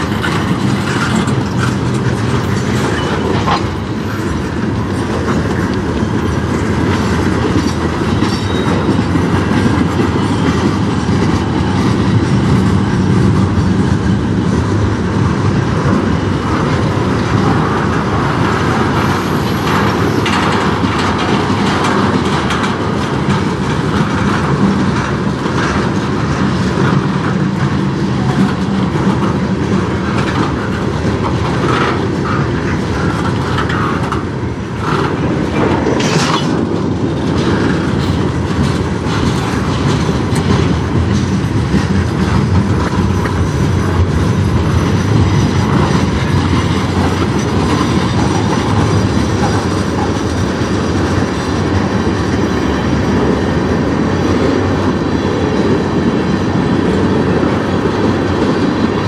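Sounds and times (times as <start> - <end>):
clickety-clack of rail joints: 0.0 - 59.0
steel wheels rumbling on rails: 0.0 - 59.0.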